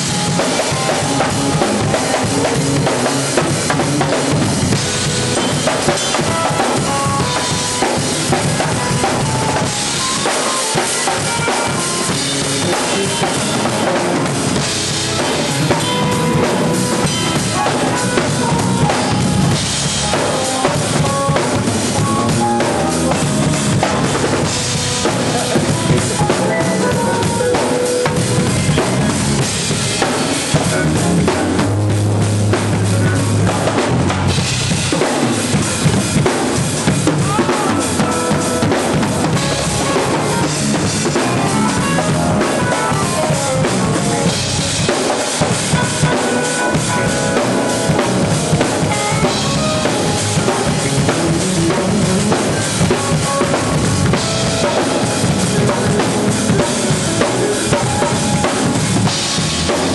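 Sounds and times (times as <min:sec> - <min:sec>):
bass drum: 0:00.0 - 0:10.2, 0:11.2 - 0:46.1, 0:46.8 - 0:59.9.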